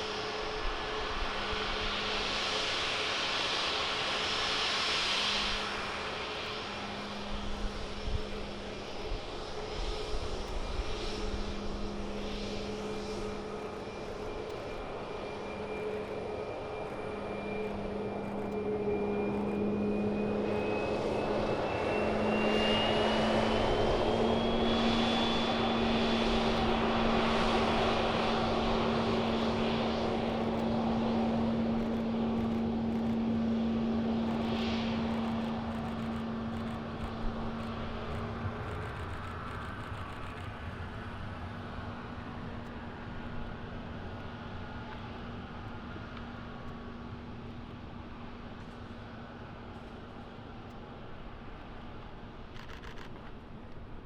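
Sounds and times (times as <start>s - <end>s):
aircraft engines humming and whining: 0.0s - 54.0s.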